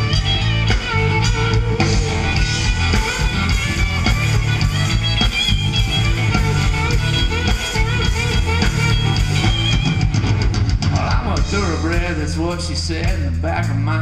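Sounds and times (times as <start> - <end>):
live country rock band: 0.0 - 14.0.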